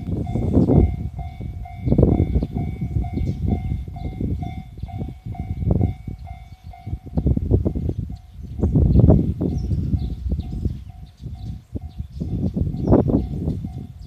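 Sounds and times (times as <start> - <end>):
freight train rumbling and clattering: 0.0 - 14.0.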